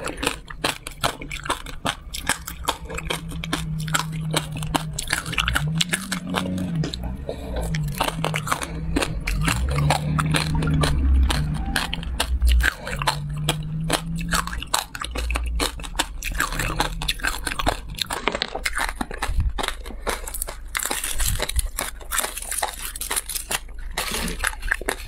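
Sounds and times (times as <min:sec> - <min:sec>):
closed-mouth humming: 0:00.0 - 0:25.0
crunching and chewing candy: 0:00.0 - 0:25.0.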